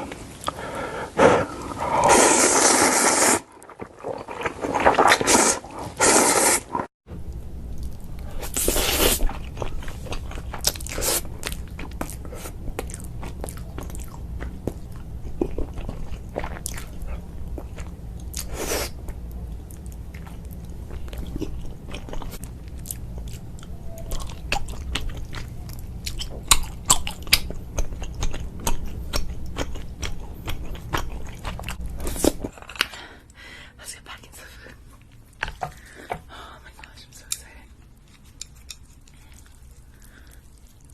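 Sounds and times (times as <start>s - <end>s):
person chewing noodles: 1.4s - 6.9s, 7.7s - 33.4s, 37.7s - 40.9s.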